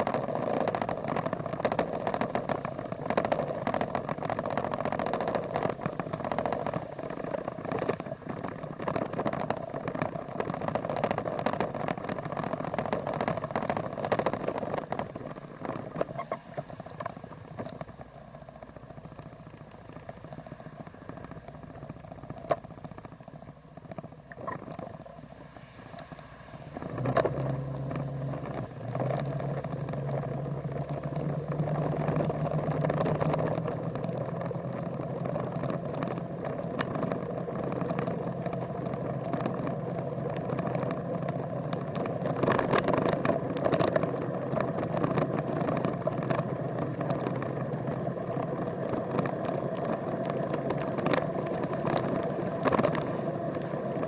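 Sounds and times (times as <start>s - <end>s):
road noise: 0.0s - 54.0s
vehicle engine running: 0.0s - 54.0s.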